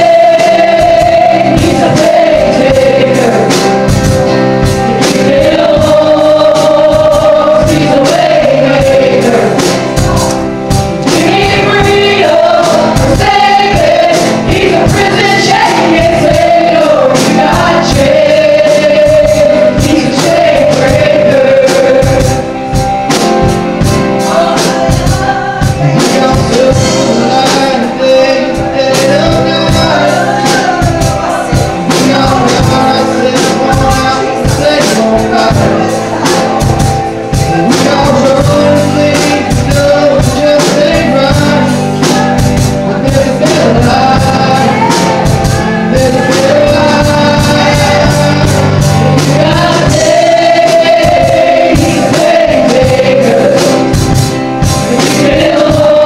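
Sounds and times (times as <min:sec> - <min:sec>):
drum kit beat: 0:00.0 - 0:56.0
electric guitar: 0:00.0 - 0:56.0
people singing into microphones: 0:00.0 - 0:56.0.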